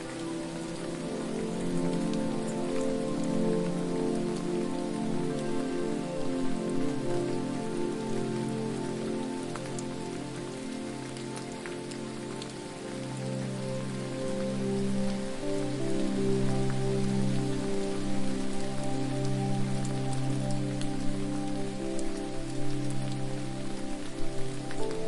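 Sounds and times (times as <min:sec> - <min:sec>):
low sustained musical tones: 0:00.0 - 0:25.0
rushing water: 0:00.0 - 0:25.0.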